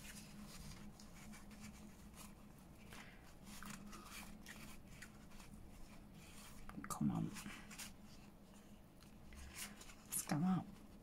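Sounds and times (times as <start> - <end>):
lace and paper rustling: 0.0 - 11.0
low steady hum: 0.0 - 11.0.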